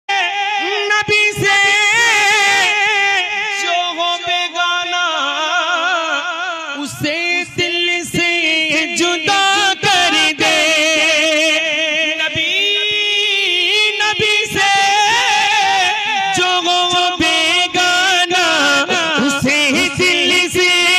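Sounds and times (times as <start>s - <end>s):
man singing into a microphone: 0.1s - 20.9s.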